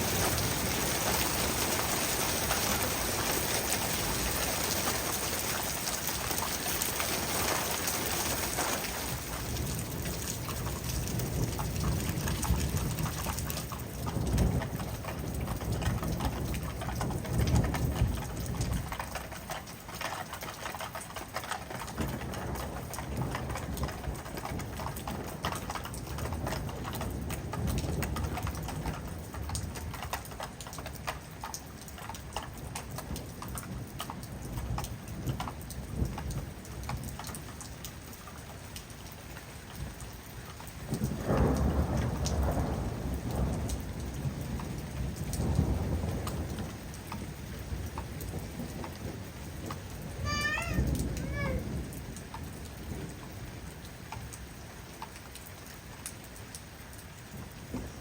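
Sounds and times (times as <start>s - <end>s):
heavy rain on a surface: 0.0s - 58.0s
low rumble of wind: 0.0s - 58.0s.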